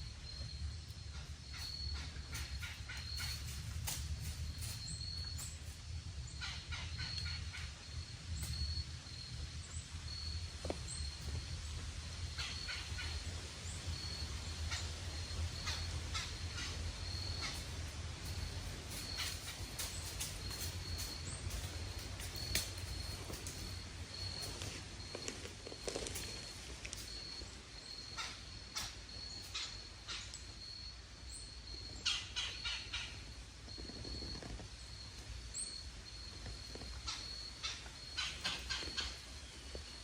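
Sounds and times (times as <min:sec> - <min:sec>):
steady low rumble: 0:00.0 - 0:34.1.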